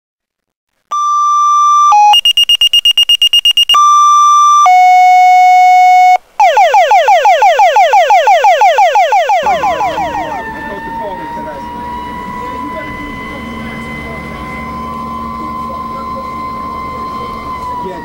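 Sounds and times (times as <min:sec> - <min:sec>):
electronic siren tones: 0:00.9 - 0:18.0.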